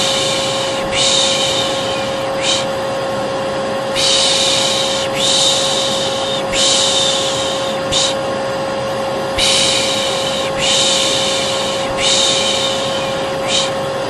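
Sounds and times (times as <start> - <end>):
person shushing: 0.0 - 2.7, 4.0 - 8.2, 9.4 - 13.9
hair dryer humming: 0.0 - 14.0.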